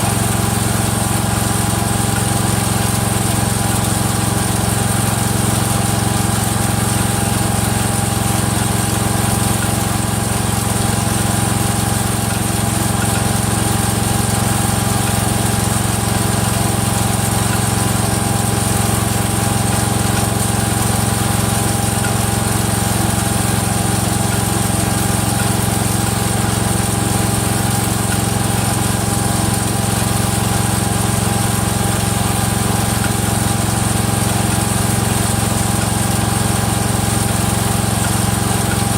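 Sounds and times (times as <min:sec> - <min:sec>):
single-cylinder engine running: 0:00.0 - 0:38.9.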